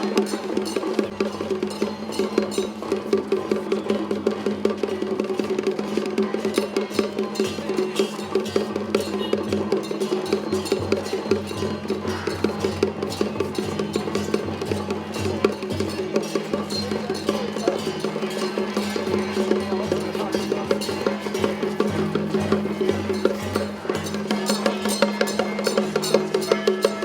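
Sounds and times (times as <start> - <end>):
drums: 0.0 - 27.0.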